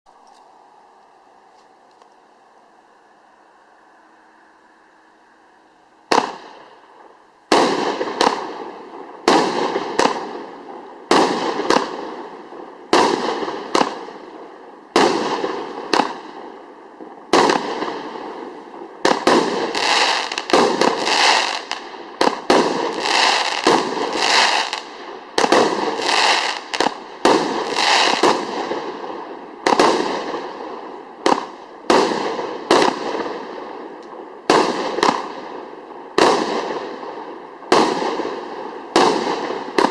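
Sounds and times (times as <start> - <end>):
fireworks bangs: 6.1 - 39.9.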